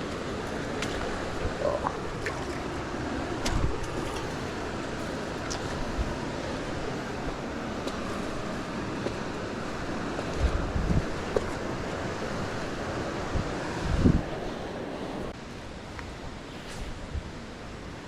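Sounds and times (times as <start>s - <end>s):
rushing creek water: 0.0s - 18.0s.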